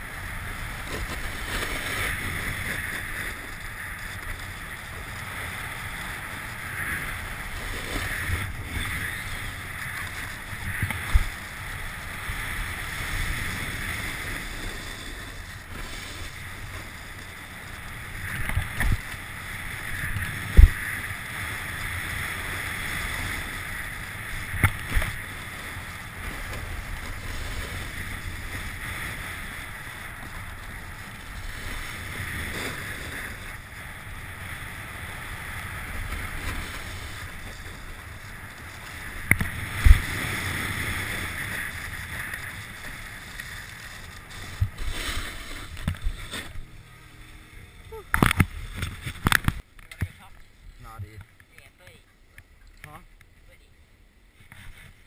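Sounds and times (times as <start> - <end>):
snowboard scraping on snow: 0.0 - 49.6, 54.3 - 55.0
wind: 0.0 - 55.0.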